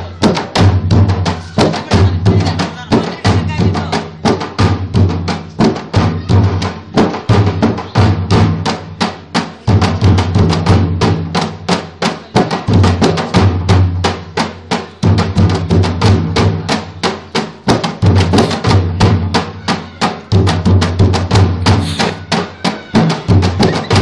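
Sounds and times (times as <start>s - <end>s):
barrel drums fast rhythm: 0.0s - 24.0s.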